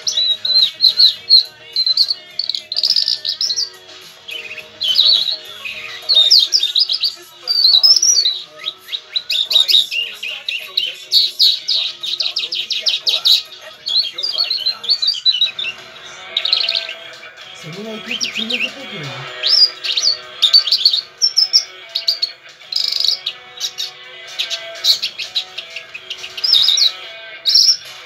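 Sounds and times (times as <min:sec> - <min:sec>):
lark singing: 0:00.0 - 0:28.0.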